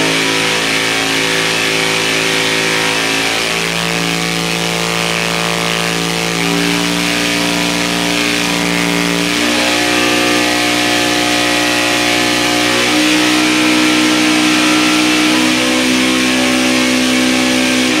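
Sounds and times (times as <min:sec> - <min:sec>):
engine running loud on dyno: 0:00.0 - 0:18.0.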